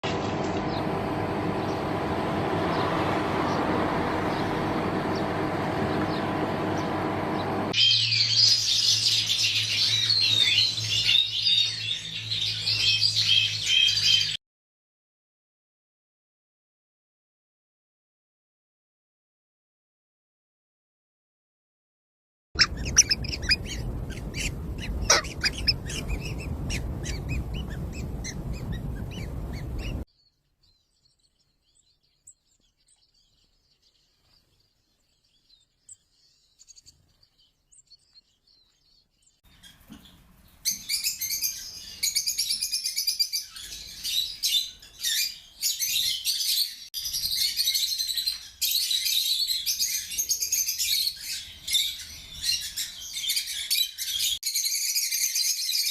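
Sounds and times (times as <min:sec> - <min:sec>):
birds chirping: 0:00.1 - 0:14.4, 0:22.6 - 0:55.9.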